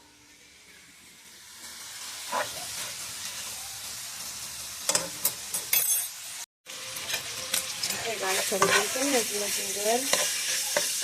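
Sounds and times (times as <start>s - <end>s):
bacon sizzling in a pan: 0.2s - 11.0s.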